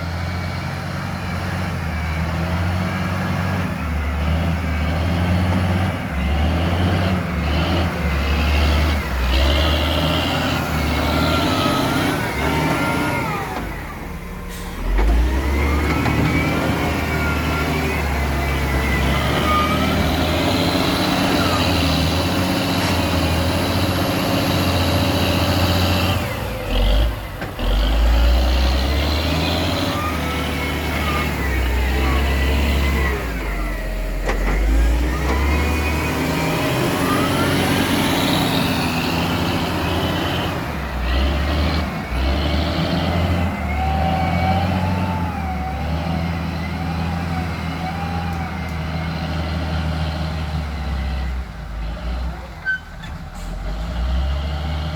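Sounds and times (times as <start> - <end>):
excavator diesel engine working: 0.0 - 54.9.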